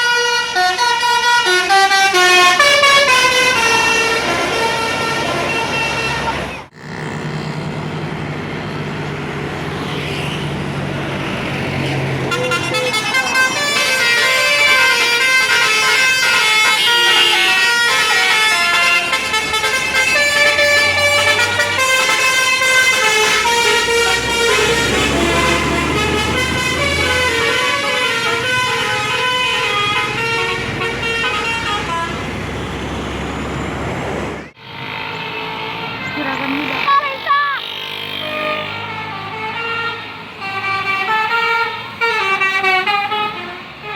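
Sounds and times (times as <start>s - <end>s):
musical horn melody: 0.0s - 6.8s, 12.2s - 32.4s, 35.0s - 43.9s
bus engine running: 0.0s - 43.9s.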